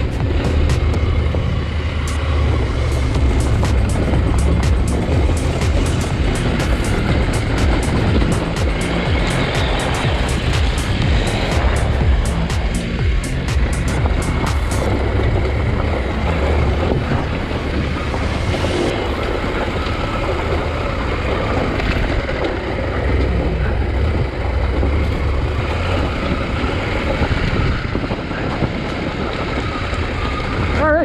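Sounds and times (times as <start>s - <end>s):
motorcycle engine running: 0.0s - 31.0s
wind buffeting microphone: 0.0s - 31.0s.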